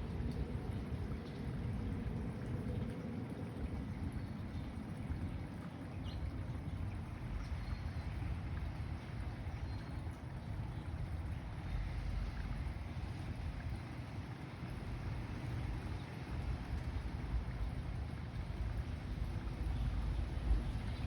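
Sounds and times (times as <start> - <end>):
faint outdoor background noise: 0.0 - 21.0
wind buffeting microphone: 0.0 - 21.0.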